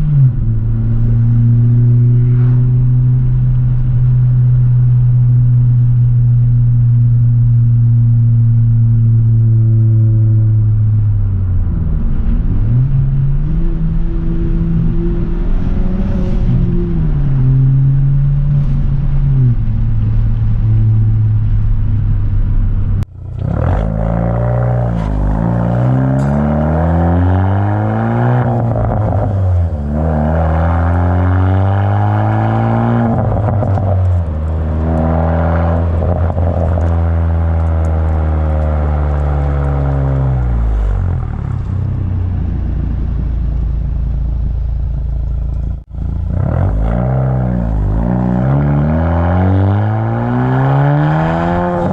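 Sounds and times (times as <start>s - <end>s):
car exhaust accelerating through gears: 0.0s - 51.9s.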